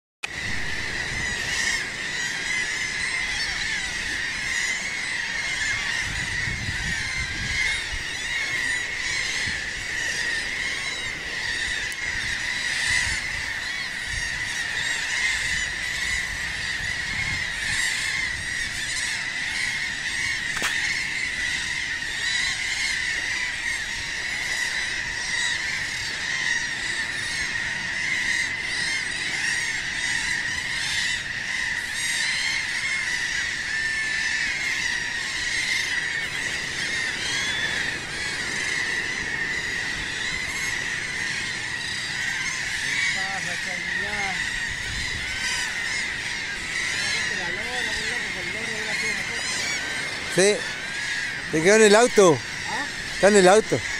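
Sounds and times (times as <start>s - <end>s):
seabirds calling: 0.2s - 53.9s.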